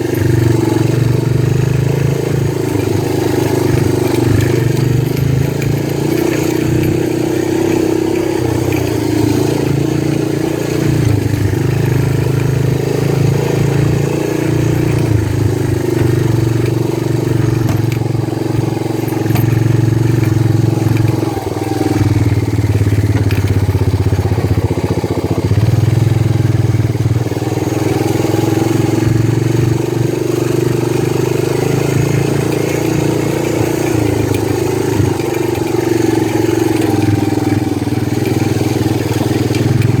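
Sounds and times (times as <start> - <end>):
small motorbike engine running: 0.0 - 40.0.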